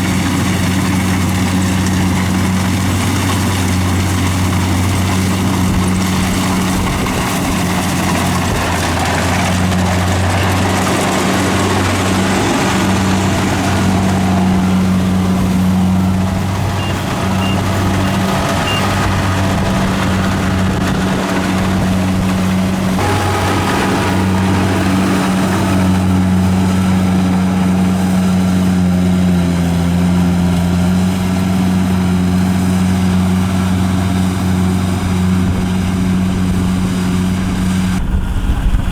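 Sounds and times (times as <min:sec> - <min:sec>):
working machinery noise: 0:00.0 - 0:37.4
harvester engine humming: 0:00.0 - 0:38.9.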